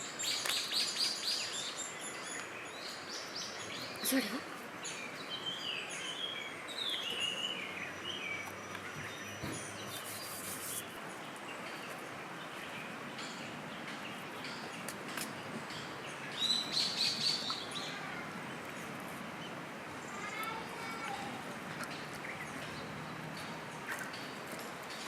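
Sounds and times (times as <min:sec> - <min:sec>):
birds chirping: 0:00.0 - 0:25.0
steady background hiss: 0:00.0 - 0:25.0.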